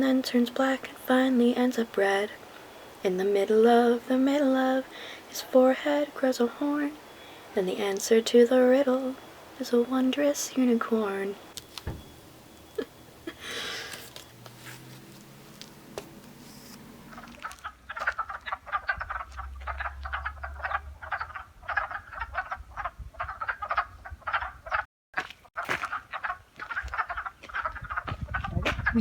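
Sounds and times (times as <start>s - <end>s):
frogs croaking: 0.0s - 29.0s.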